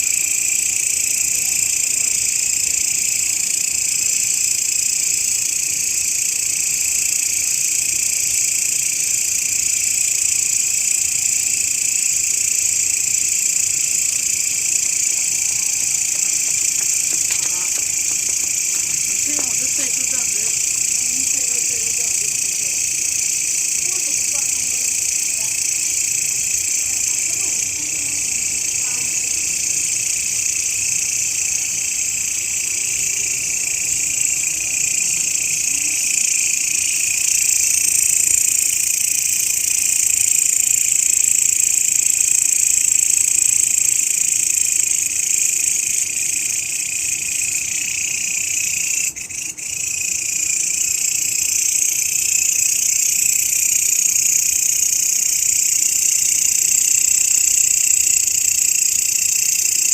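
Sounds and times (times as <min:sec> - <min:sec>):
grasshoppers buzzing: 0:00.0 - 0:59.9.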